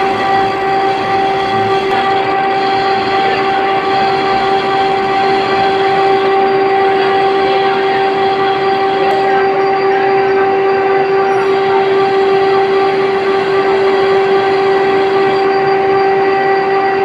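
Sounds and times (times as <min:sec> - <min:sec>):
mechanical hum: 0:00.0 - 0:17.0
metal lathe whine: 0:00.0 - 0:17.0.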